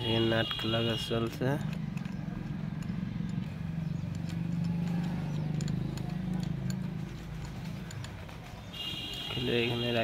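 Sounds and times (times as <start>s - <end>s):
small metal clicks and taps: 0.4s - 8.5s.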